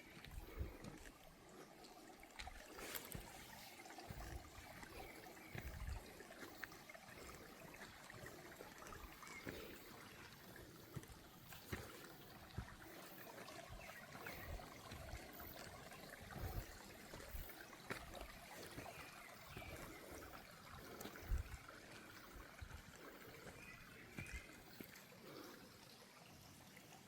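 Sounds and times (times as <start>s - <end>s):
stream trickling: 0.0s - 27.0s.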